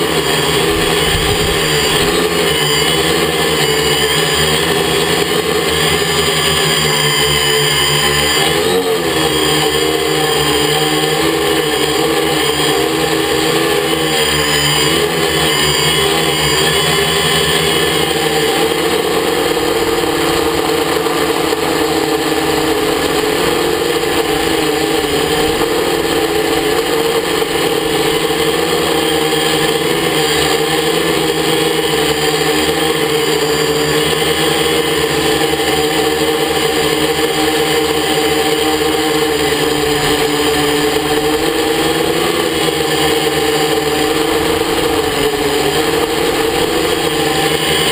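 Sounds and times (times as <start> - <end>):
drone motors whining: 0.0 - 47.9.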